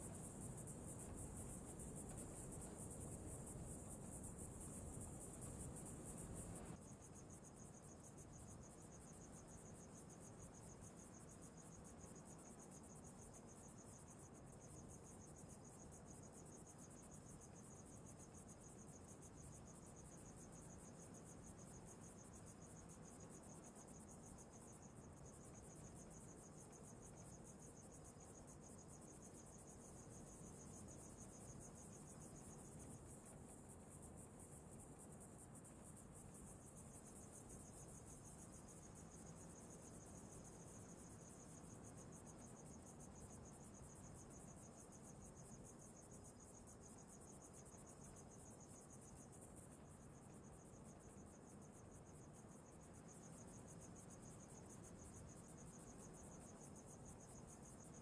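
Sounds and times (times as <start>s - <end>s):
crickets chirring: 0.0s - 58.0s
low background hiss: 0.0s - 58.0s.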